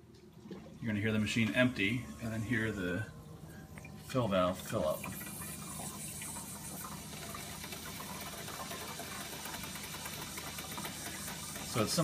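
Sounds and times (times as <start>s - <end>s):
water rushing through fill valve: 0.4s - 12.0s.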